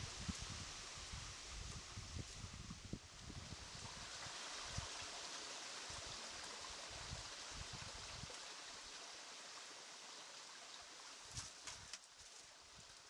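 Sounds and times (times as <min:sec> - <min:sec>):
faint rushing water: 0:00.0 - 0:13.0.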